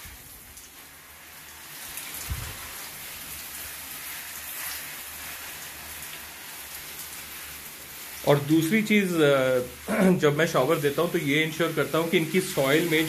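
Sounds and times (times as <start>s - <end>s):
water spray hissing on leaves: 0.0s - 13.0s.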